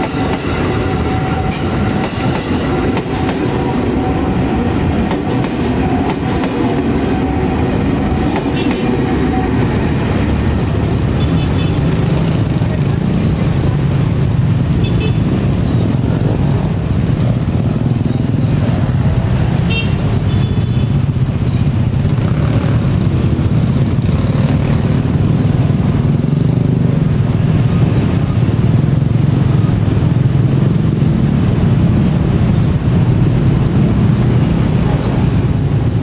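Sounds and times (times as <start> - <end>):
electric train rumbling: 0.0 - 36.0.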